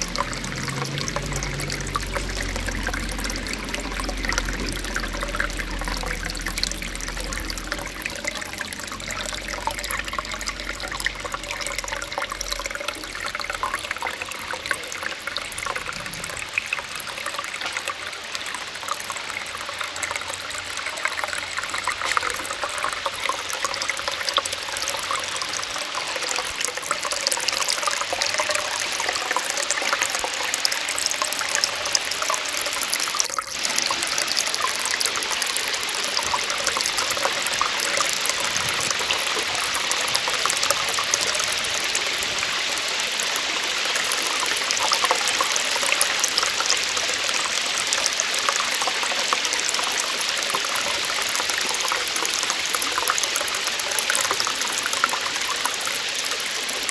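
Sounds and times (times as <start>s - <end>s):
small waterfall splashing: 0.0s - 56.9s.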